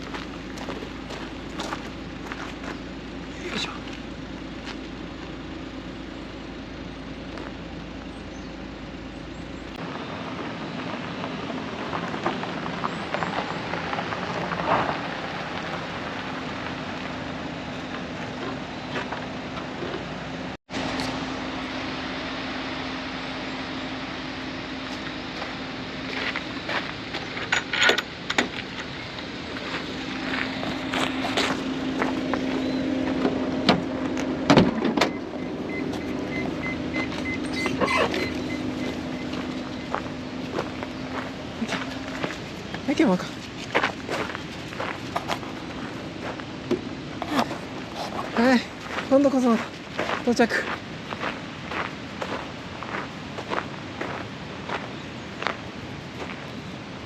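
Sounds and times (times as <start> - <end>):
stones crackling under tyres: 0.0 - 5.5, 7.2 - 8.2, 9.8 - 20.2, 24.9 - 56.8
car engine running: 0.0 - 57.0
tyres on gravel: 0.0 - 57.0.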